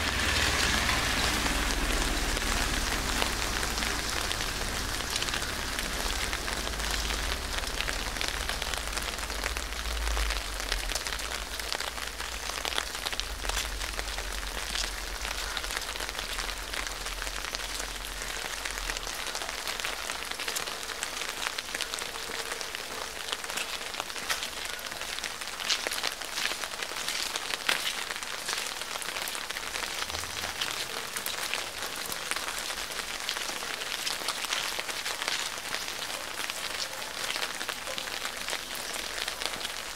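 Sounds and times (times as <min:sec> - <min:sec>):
raindrops tapping: 0:00.0 - 0:39.9
steady rain falling: 0:00.0 - 0:39.9.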